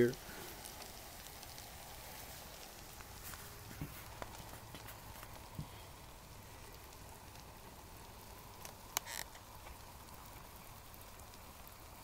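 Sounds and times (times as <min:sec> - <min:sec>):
small ticks of bubbling water: 0:00.0 - 0:12.0
water heating with faint hiss: 0:00.0 - 0:12.0.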